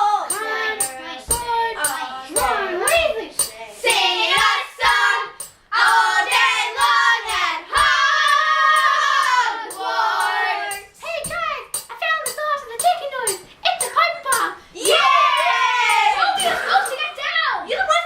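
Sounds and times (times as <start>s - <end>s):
child singing: 0.0s - 17.2s
steady ticking: 0.0s - 17.3s.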